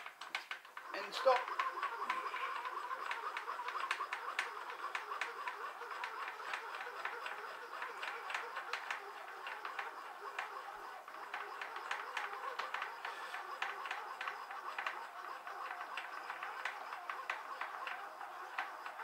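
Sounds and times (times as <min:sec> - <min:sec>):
lathe feed screw clicking: 0:00.0 - 0:19.0.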